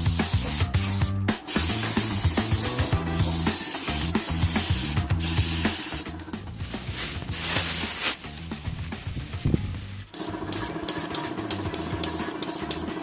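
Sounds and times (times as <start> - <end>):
background music with bass line: 0.0 - 10.2, 11.2 - 13.0
spray paint hissing: 0.0 - 10.2, 11.2 - 13.0.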